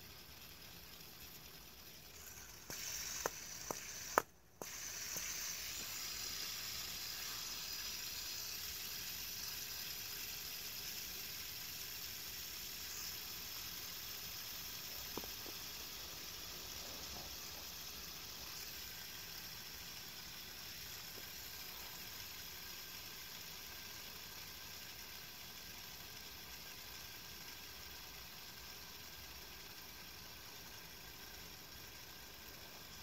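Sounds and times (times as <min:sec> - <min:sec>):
fidget spinner whirring: 0:00.0 - 0:33.0.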